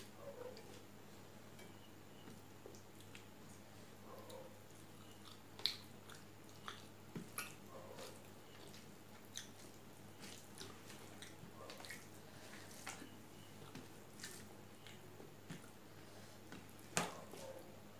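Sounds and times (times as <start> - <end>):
person chewing food: 2.2 - 17.6.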